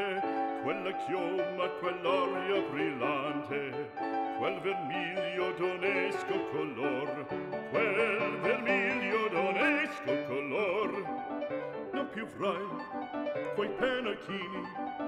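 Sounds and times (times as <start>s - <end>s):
opera singer with vibrato: 0.0s - 11.1s, 12.0s - 12.8s, 13.5s - 14.8s
instrumental accompaniment: 0.0s - 15.0s.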